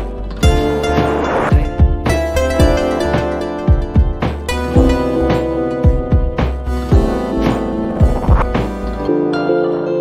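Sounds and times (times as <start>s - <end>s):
low bass: 0.0s - 9.1s
held instrumental notes: 0.0s - 10.0s
drum beats: 0.4s - 8.9s.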